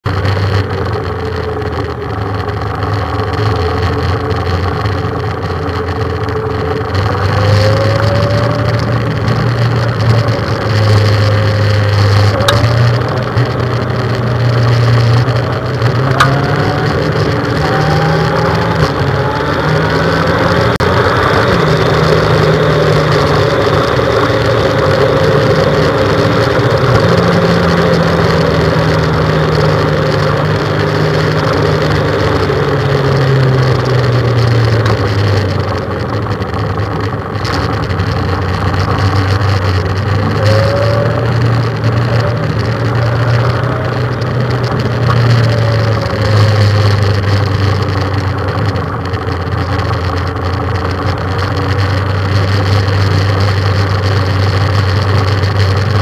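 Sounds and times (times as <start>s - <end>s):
motorcycle engine revving: 0.0s - 56.0s
wind noise: 0.1s - 56.0s.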